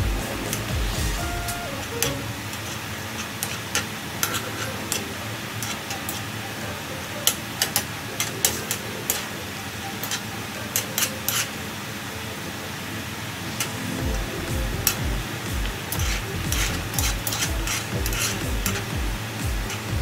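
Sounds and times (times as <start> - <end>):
steady hiss of cooking: 0.0 - 20.0.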